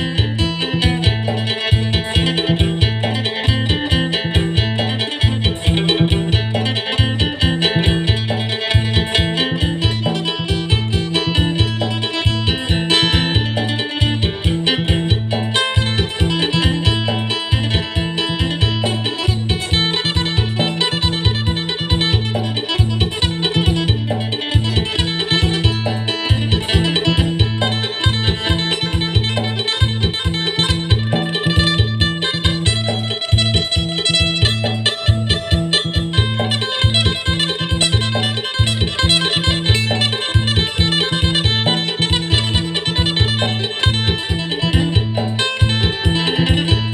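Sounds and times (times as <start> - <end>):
plucked lute melody: 0.0 - 46.9
steady low beat: 0.0 - 46.9.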